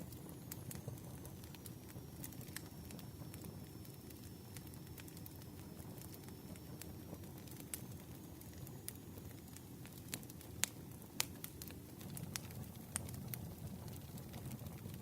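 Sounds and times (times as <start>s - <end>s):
campfire flames rushing: 0.0s - 15.0s
fire pops and snaps: 0.0s - 15.0s.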